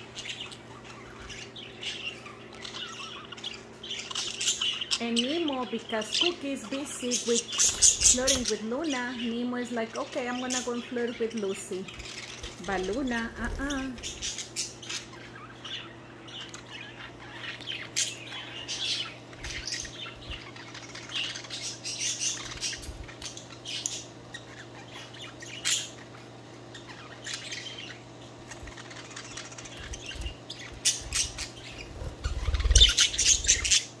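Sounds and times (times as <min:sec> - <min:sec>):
budgerigars chirping and chattering: 0:00.0 - 0:34.0.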